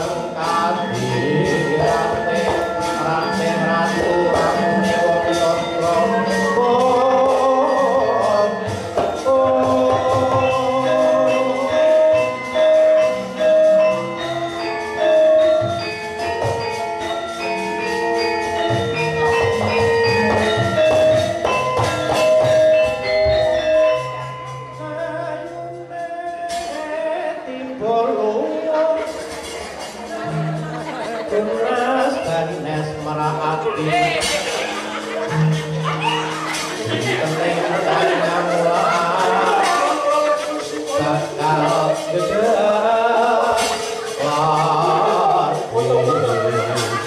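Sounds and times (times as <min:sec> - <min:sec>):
singing voices: 0:00.0 - 0:15.1, 0:19.6 - 0:47.0
metallophones ringing melody: 0:00.0 - 0:47.0.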